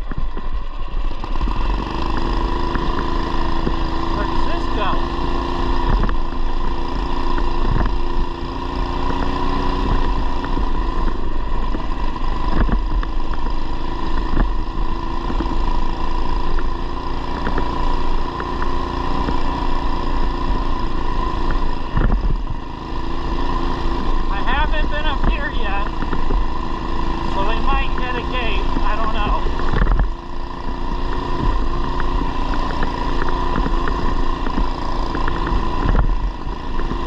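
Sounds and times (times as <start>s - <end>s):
mini bike engine running: 0.0s - 37.0s.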